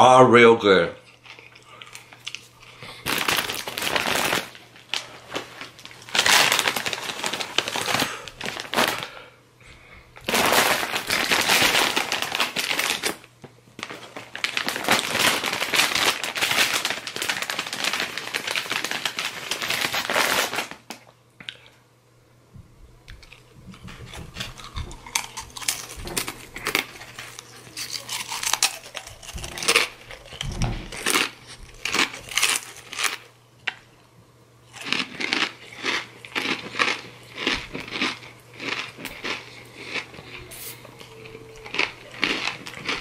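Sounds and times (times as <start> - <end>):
plastic chip bag crinkling: 1.2 - 9.2, 10.2 - 21.1, 23.2 - 33.3, 34.7 - 43.0.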